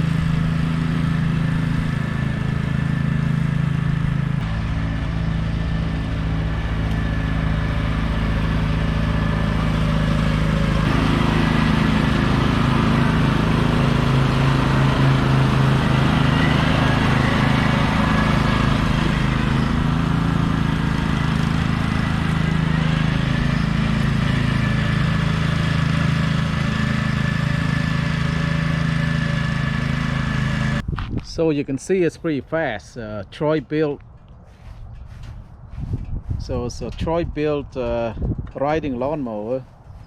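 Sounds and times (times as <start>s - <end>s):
riding lawn mower engine: 0.0s - 40.0s.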